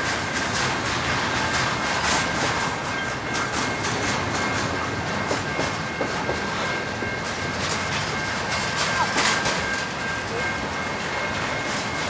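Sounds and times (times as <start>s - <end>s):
freight wheels clicking over rail joints: 0.0s - 12.0s
train clatter: 0.0s - 12.0s
train rumble: 0.0s - 12.0s.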